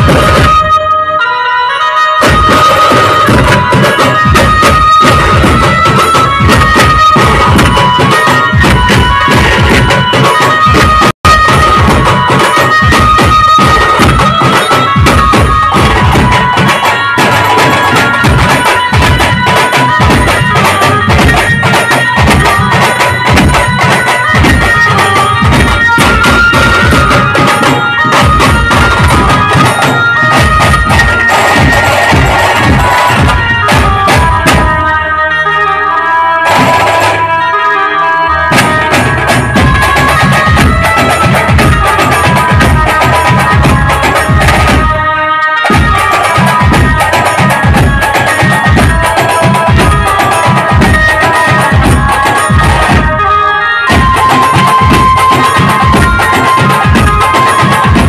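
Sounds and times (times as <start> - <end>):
drums beating fast rhythm: 0.0 - 0.9, 2.1 - 35.0, 36.4 - 37.3, 38.4 - 58.0
amplified melody line: 0.5 - 58.0.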